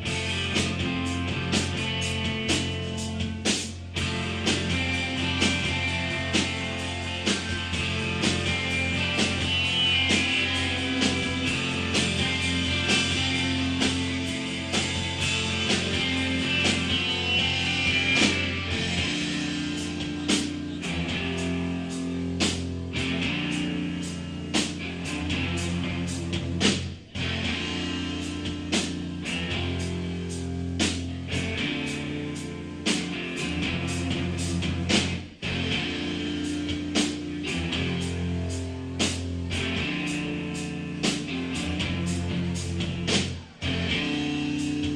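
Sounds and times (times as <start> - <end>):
hard drum and cymbal hits: 0.0 - 44.9
live rock band playing: 0.0 - 44.9.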